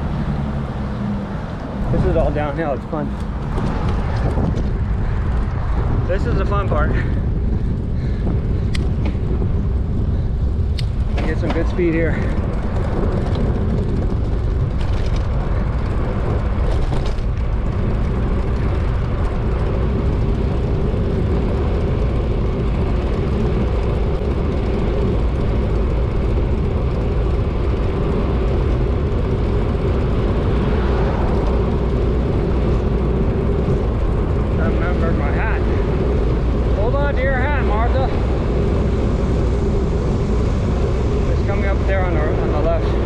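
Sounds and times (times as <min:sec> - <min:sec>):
constant hum: 0:00.0 - 0:43.0
wind rushing over microphone: 0:00.0 - 0:43.0.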